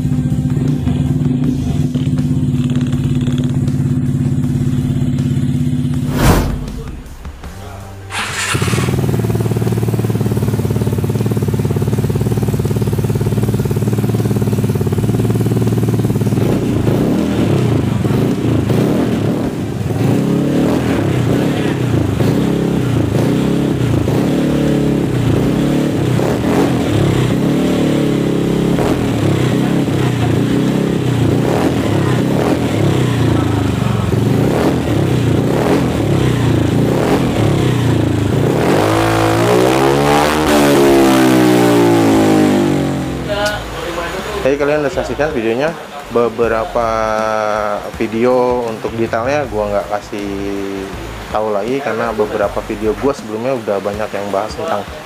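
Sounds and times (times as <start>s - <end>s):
scooter engine idling and revving: 0.0s - 6.2s, 7.1s - 53.2s.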